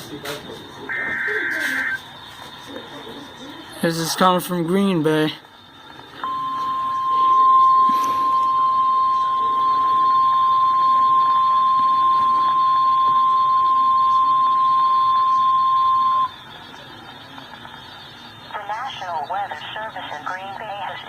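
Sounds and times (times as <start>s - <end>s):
steady alarm tone: 0.8s - 3.0s, 3.8s - 20.2s.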